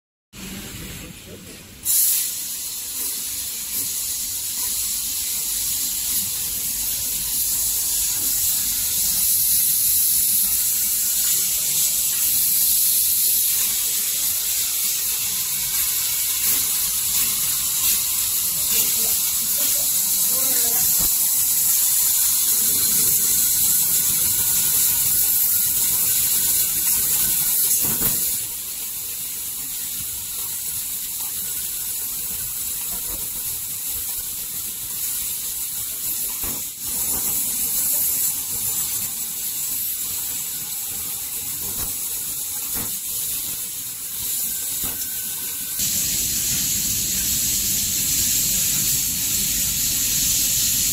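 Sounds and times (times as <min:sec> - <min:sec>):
laser cutter gas jet hiss: 0:01.8 - 0:50.9.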